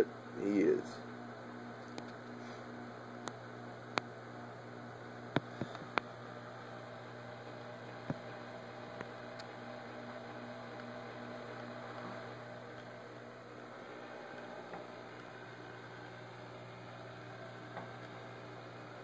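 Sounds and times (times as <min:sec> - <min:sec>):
aquarium pump hum: 0:00.0 - 0:19.0.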